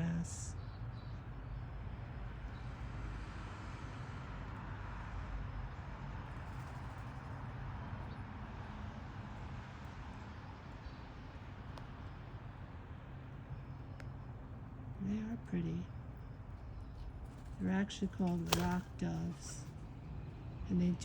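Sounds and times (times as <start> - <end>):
outdoor background rumble and hiss: 0.0 - 21.0.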